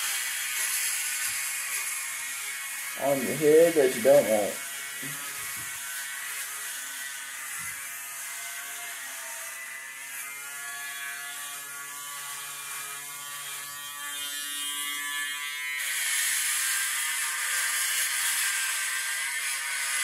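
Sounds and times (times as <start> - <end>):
electric shaver buzzing: 0.0 - 20.0.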